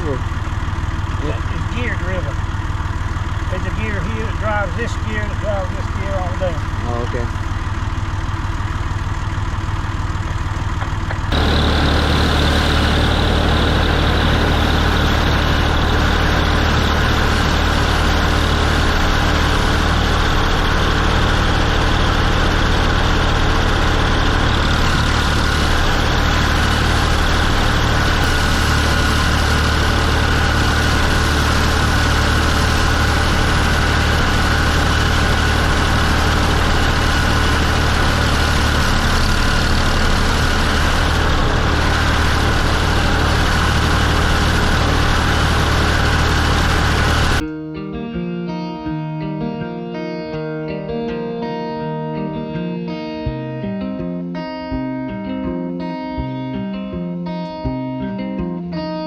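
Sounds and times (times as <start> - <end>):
tractor diesel engine running: 0.0 - 47.4.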